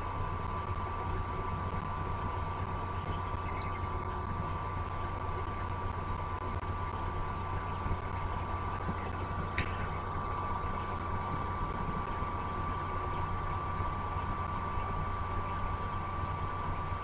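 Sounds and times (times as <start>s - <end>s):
low hum and hiss: 0.0s - 17.0s
thin steady whine: 0.0s - 17.0s.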